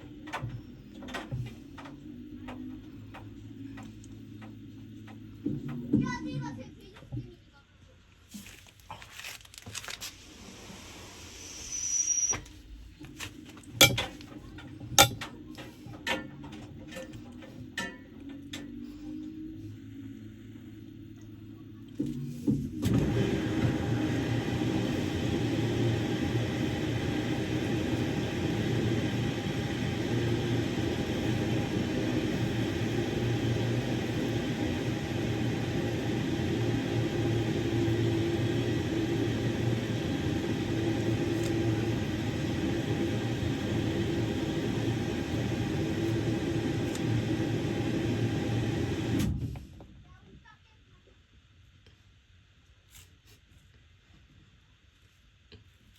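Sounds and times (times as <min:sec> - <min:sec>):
washing machine humming: 0:00.0 - 0:07.5, 0:10.0 - 0:49.7.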